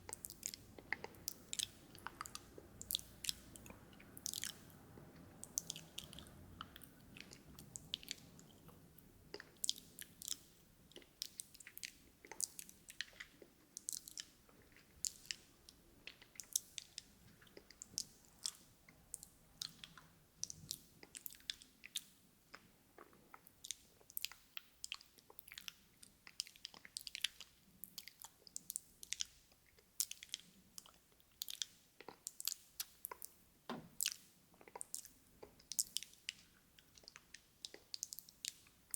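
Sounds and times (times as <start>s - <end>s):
wet lip and tongue clicks: 0.1s - 4.8s, 5.4s - 38.9s.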